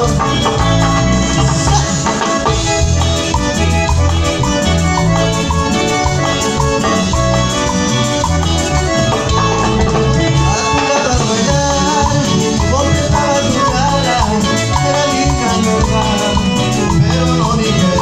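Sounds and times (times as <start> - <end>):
drums: 0.0 - 18.0
live band dance beat: 0.0 - 18.0
repeating bass line: 0.0 - 18.0
stepping melody: 0.0 - 18.0.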